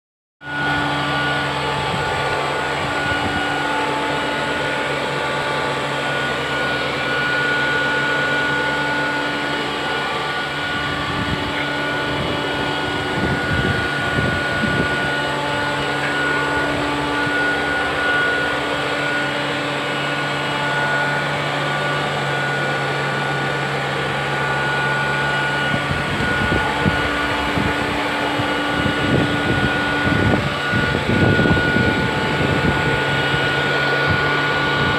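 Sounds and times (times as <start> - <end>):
robot vacuum cleaner humming: 0.4 - 34.9.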